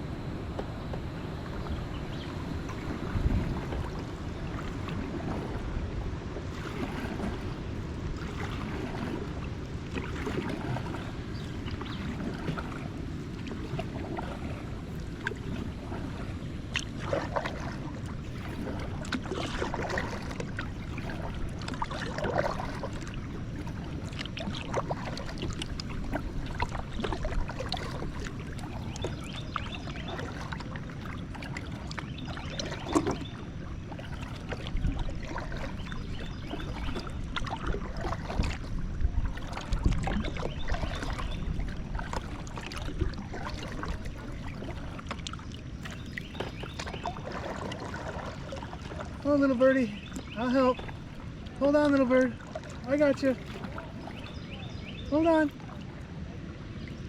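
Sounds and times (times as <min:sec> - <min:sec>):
steady low rumble: 0:00.0 - 0:45.7
paddle splashes and drips: 0:00.0 - 0:57.0.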